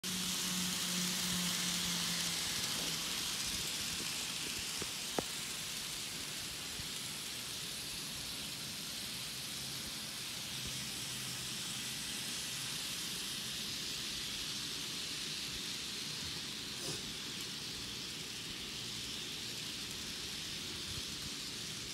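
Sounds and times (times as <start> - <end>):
model train whirring: 0.0 - 21.9.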